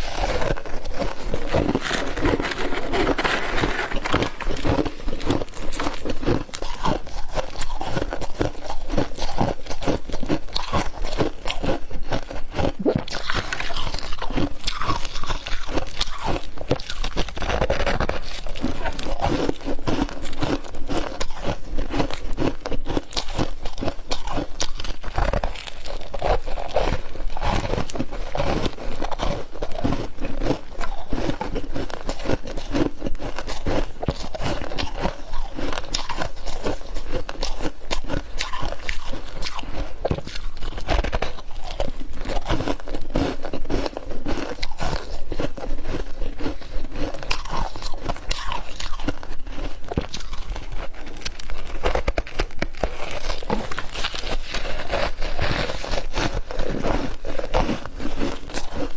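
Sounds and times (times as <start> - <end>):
crunching and chewing frost: 0.0 - 58.9.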